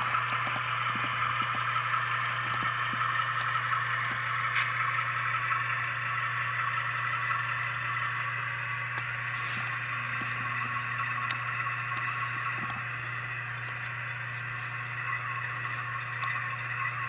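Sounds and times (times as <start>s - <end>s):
diesel engine sound from speaker: 0.0s - 17.0s.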